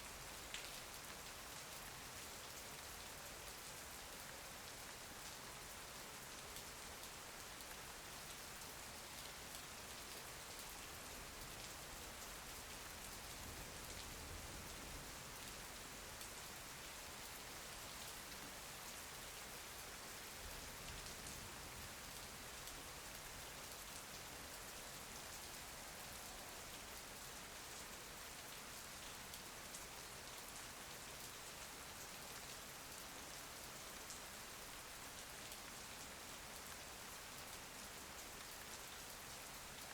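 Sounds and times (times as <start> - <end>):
rain pattering on a window: 0.0 - 39.9.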